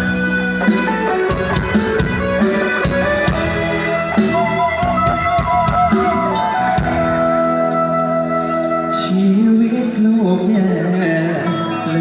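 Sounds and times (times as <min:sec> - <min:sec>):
drums playing steady beat: 0:00.0 - 0:11.6
keyboard or guitar held notes: 0:00.0 - 0:12.0.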